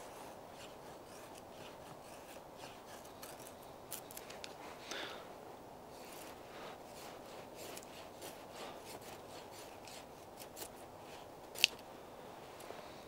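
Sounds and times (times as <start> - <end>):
knife scraping wooden stick: 0.0 - 4.8, 5.9 - 11.8.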